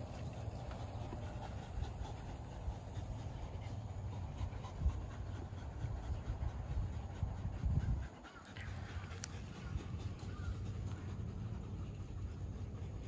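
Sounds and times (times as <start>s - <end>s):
dogs panting hard: 0.0s - 13.0s
low uneven rumble: 0.0s - 13.0s.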